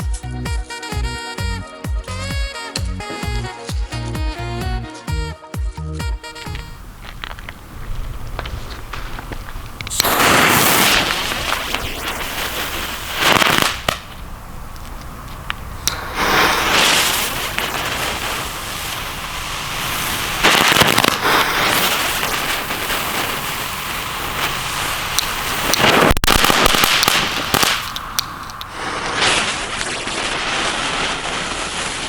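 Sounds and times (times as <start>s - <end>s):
fireworks crackling and popping: 0.0s - 5.3s, 6.2s - 32.0s.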